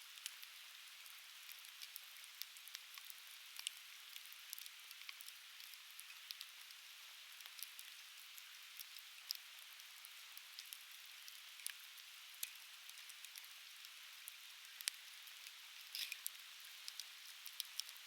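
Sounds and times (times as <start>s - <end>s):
faint steady hiss: 0.0s - 18.0s
firewood crackling and popping: 1.5s - 8.0s, 8.8s - 15.0s, 15.8s - 18.0s.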